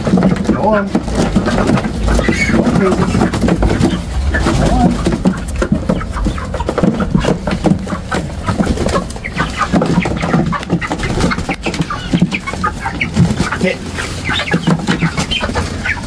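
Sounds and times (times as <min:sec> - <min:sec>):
knocks and rustles: 0:00.0 - 0:15.9
young chickens calling: 0:00.0 - 0:16.0.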